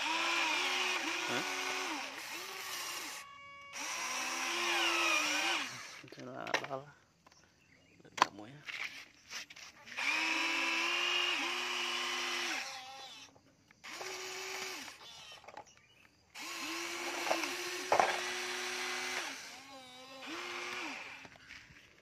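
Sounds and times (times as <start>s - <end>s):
toy excavator motors whining: 0.0s - 7.4s, 8.7s - 22.0s.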